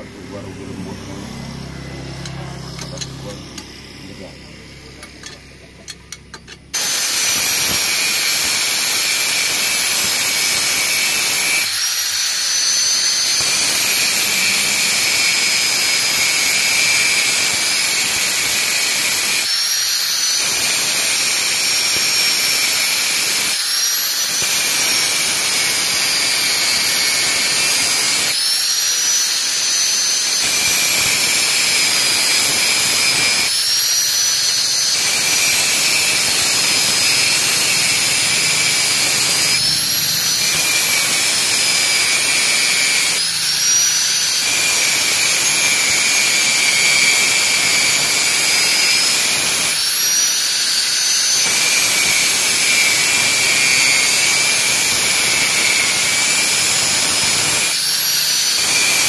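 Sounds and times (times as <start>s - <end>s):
angle grinder cutting metal: 0.0s - 59.0s.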